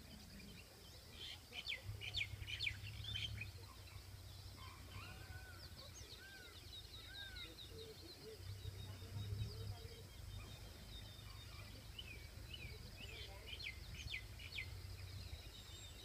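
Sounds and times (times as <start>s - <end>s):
birds chirping and calling: 0.0s - 16.0s
faint low hum: 0.0s - 16.0s.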